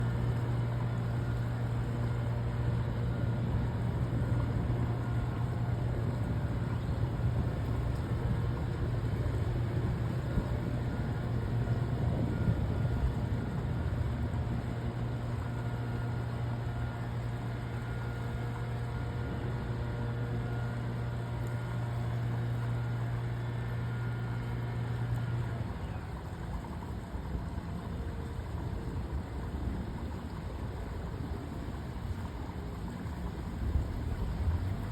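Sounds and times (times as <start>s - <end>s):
motor humming: 0.0s - 34.9s
outdoor background noise: 0.0s - 34.9s.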